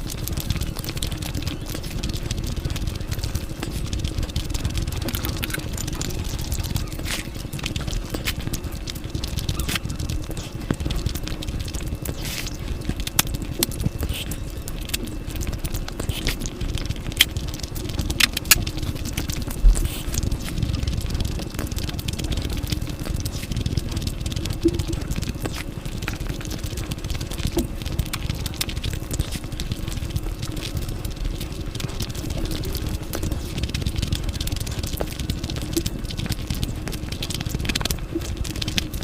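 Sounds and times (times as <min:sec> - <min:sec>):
chewing with clicks and crackles: 0:00.0 - 0:39.0.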